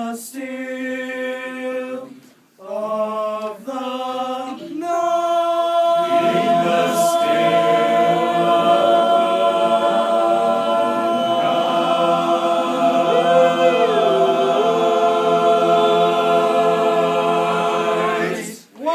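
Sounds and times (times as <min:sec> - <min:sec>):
men's chorus singing a cappella: 0:00.0 - 0:18.9.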